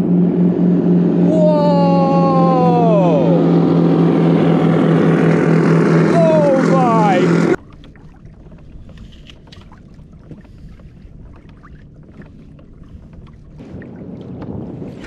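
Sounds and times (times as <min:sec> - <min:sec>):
low rumble: 0:00.0 - 0:15.0
water lapping against hull: 0:00.1 - 0:15.0.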